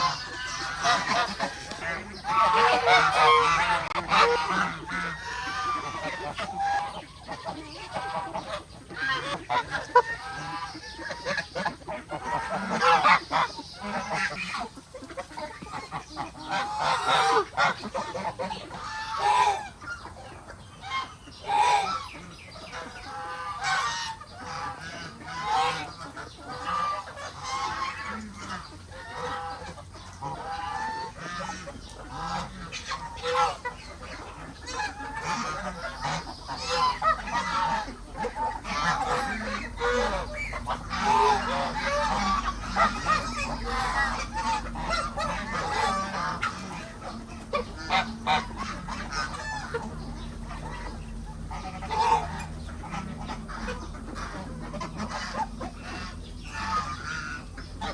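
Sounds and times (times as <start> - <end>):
chickens clucking: 0.0 - 57.9
geese honking: 0.0 - 57.9
low steady hum: 0.0 - 57.9.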